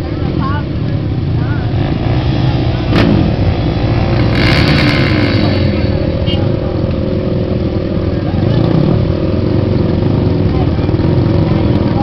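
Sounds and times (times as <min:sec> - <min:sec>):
quad engines idling: 0:00.0 - 0:12.0.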